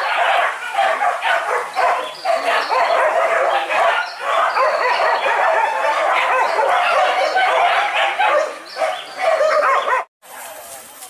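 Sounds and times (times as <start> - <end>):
dogs barking and yelping: 0.0 - 10.5.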